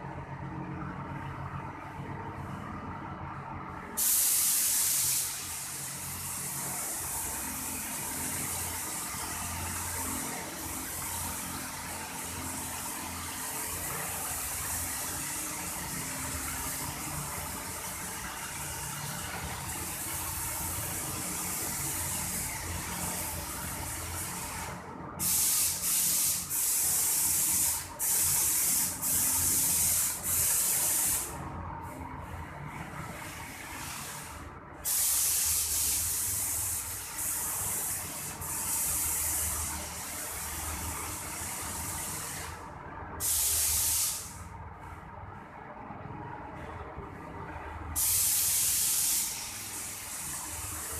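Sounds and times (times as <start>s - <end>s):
paint sprayer hissing: 4.0s - 32.0s, 33.0s - 42.6s, 43.2s - 44.5s, 48.0s - 50.9s.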